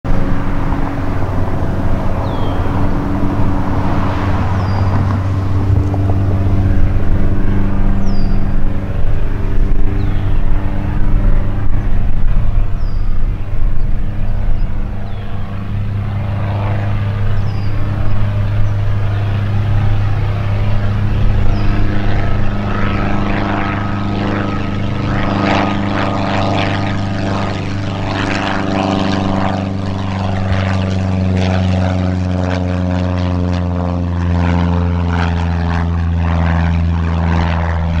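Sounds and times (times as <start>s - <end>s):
propeller plane engine drone: 0.0s - 38.0s
rasping propeller buzz: 0.0s - 38.0s.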